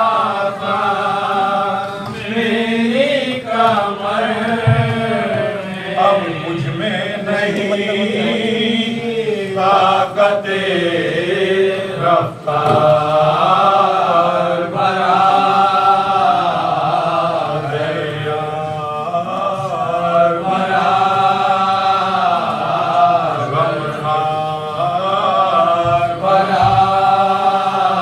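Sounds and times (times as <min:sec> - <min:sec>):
men chanting a lament: 0:00.0 - 0:28.0.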